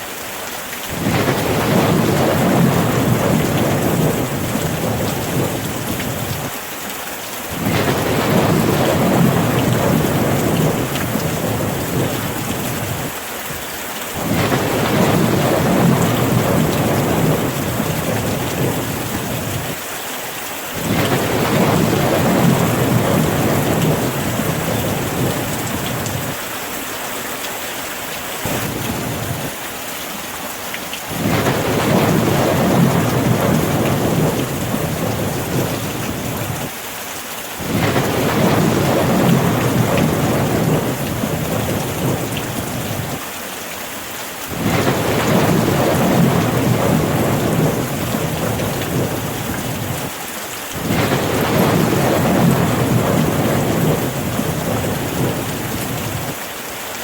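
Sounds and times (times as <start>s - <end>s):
steady rain: 0.0s - 57.0s
thunder rolling: 0.9s - 6.5s, 7.5s - 13.1s, 14.2s - 19.8s, 20.8s - 26.4s, 28.4s - 29.6s, 31.1s - 36.7s, 37.6s - 43.2s, 44.5s - 50.1s, 50.8s - 56.4s.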